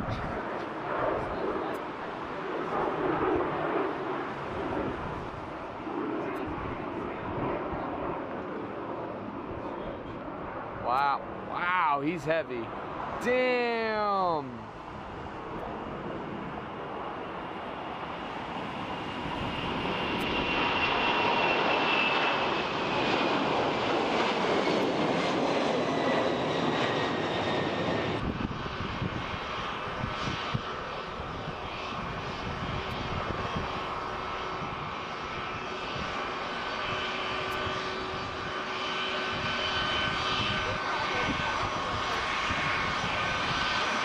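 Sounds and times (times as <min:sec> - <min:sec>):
jet engines roaring: 0:00.0 - 0:44.0
jet engines whining at taxi: 0:00.0 - 0:44.0.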